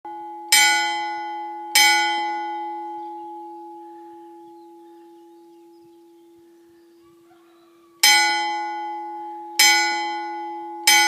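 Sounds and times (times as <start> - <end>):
church bell ringing: 0.1 - 11.0.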